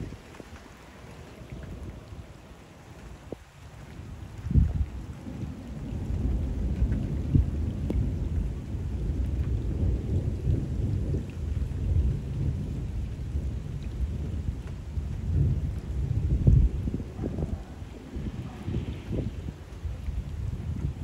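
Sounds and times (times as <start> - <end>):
rain falling on water: 0.0 - 21.0
rolling thunder: 4.1 - 21.0.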